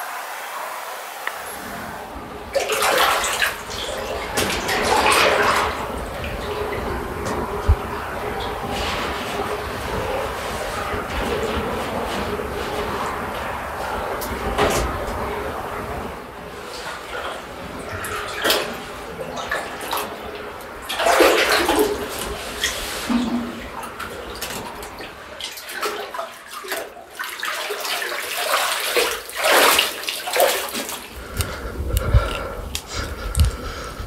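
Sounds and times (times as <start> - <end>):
water splashing from wading: 0.0 - 34.0.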